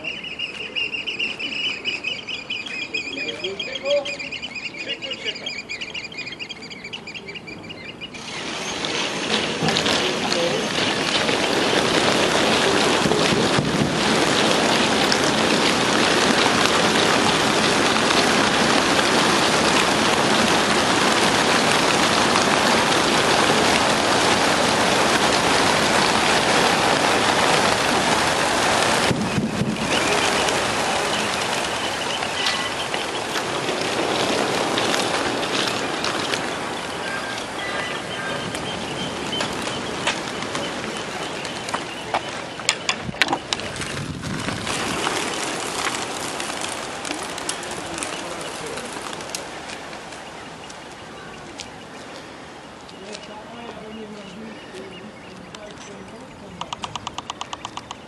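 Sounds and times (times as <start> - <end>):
flock of pigeons wingbeats: 8.2 - 58.0.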